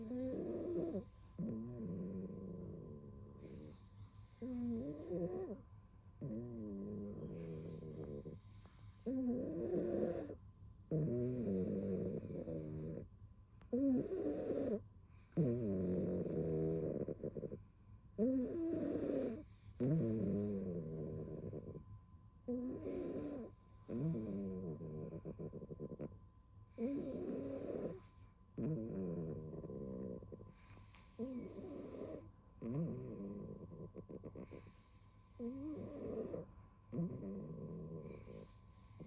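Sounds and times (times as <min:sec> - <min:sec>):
cat snoring: 0:00.0 - 0:05.6, 0:06.2 - 0:13.1, 0:13.7 - 0:21.9, 0:22.5 - 0:39.0.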